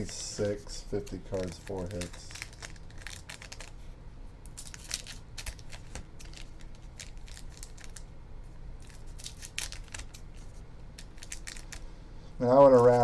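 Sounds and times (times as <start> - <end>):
plastic wrap crinkling: 0.0 - 3.8, 4.5 - 8.1, 8.8 - 11.9.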